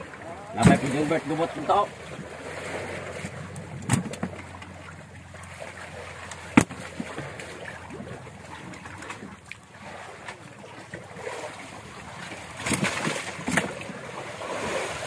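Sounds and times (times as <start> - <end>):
sea noise: 0.0 - 15.0
wind: 0.0 - 15.0.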